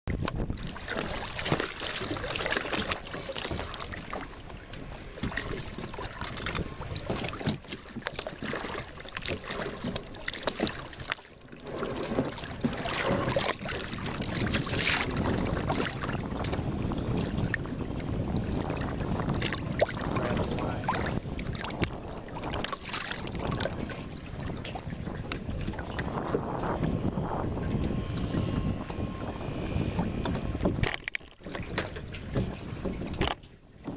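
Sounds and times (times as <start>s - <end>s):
water splashing around a boat: 0.1s - 33.9s
wind on microphone: 0.1s - 33.9s.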